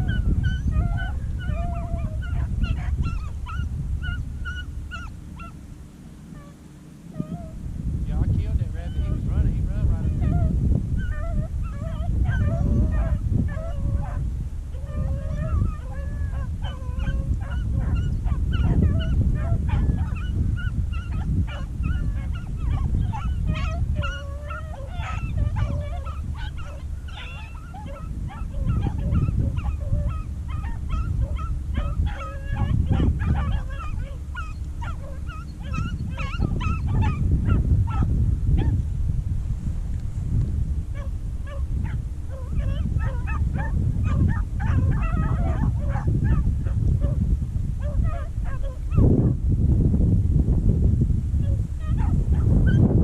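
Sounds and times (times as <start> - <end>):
dogs baying and yelping: 0.0 - 5.6, 6.3 - 7.6, 10.0 - 38.8, 40.9 - 47.2, 47.8 - 49.4, 51.4 - 52.8
steady low rumble: 0.0 - 53.0.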